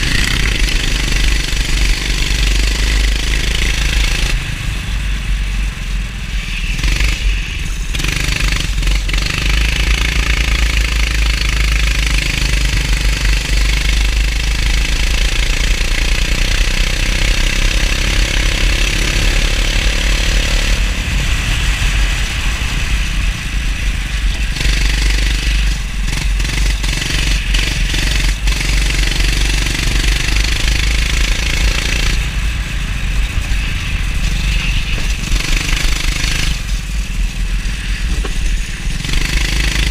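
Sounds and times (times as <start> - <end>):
heavy low rumble: 0.0 - 16.3, 19.3 - 39.9
go-kart engine running: 0.0 - 39.9.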